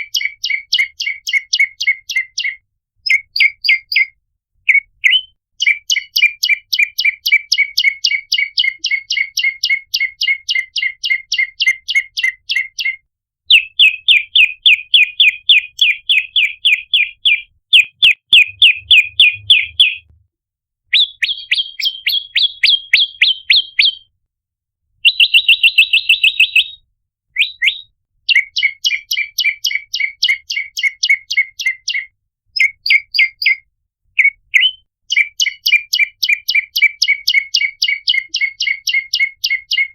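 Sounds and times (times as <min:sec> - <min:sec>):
songbird sharp chirps: 0:00.0 - 0:20.2, 0:20.9 - 0:24.1, 0:25.0 - 0:39.9.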